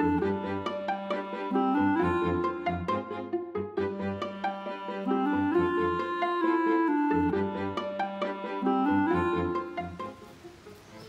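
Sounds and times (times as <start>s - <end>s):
instrumental music with pulsing bass: 0.0s - 10.2s.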